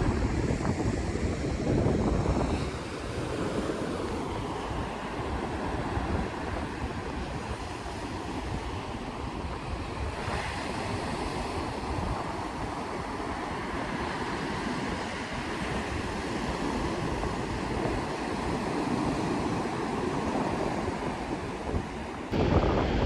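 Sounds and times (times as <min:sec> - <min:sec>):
heavy surf washing in: 0:00.0 - 0:23.0
wind rumbling on microphone: 0:00.0 - 0:23.0.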